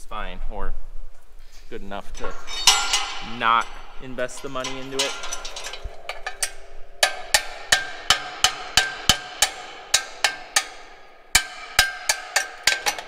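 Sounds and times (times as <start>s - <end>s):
hammer striking metal: 2.2s - 13.0s.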